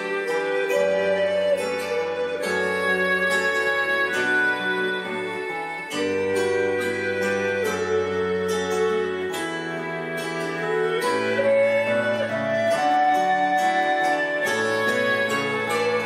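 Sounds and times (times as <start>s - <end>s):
keyboard chords: 0.0s - 16.0s
plucked strings: 0.0s - 16.0s
recorder melody: 0.0s - 16.0s.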